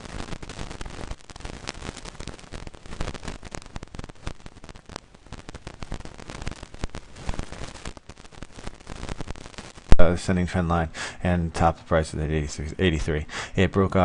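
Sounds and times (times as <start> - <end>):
crackling static clicks and pops: 0.0 - 14.0
steady hiss: 0.0 - 14.0.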